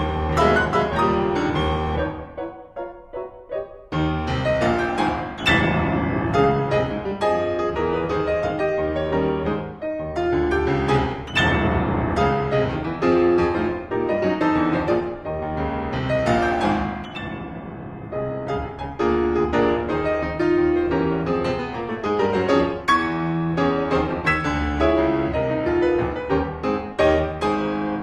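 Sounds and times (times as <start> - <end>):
solo piano ragtime: 0.0 - 28.0.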